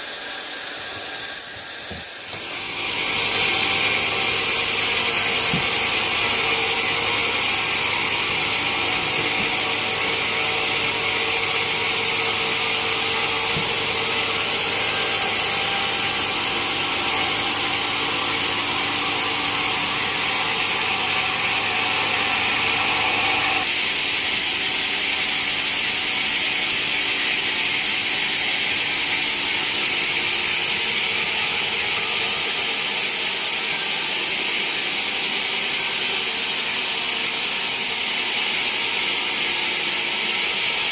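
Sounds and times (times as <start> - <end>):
bandsaw mill cutting log: 0.0 - 40.9.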